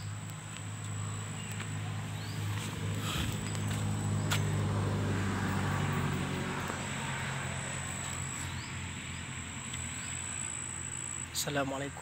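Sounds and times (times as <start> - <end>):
low motor hum: 0.0 - 11.4
insect high whine: 0.0 - 12.0.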